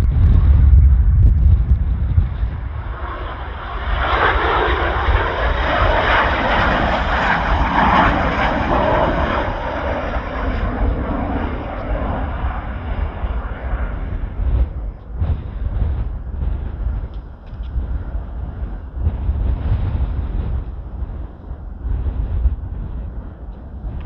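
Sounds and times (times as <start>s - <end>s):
jet engines roaring past: 0.0s - 24.0s
wind buffeting microphone: 0.0s - 24.0s.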